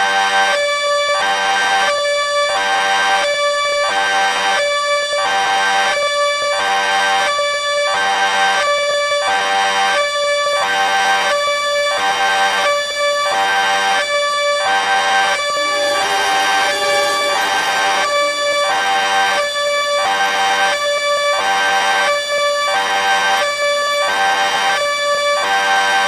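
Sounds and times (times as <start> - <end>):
two-tone electronic warning siren: 0.0 - 26.0.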